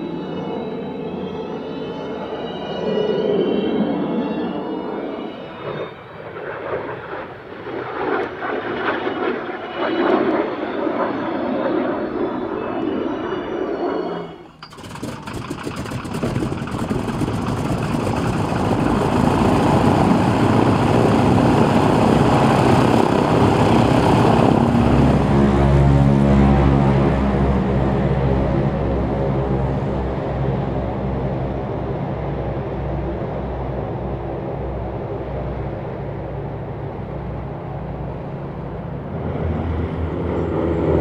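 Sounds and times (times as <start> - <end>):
jet aircraft flying past: 0.0 - 41.0
radial aircraft engine running: 0.0 - 41.0.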